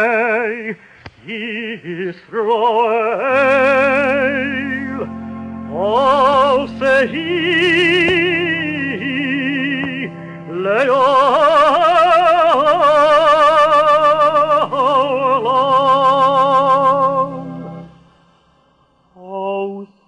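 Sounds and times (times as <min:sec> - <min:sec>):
sustained accompaniment: 0:00.0 - 0:19.8
cantor singing with vibrato: 0:00.0 - 0:20.0.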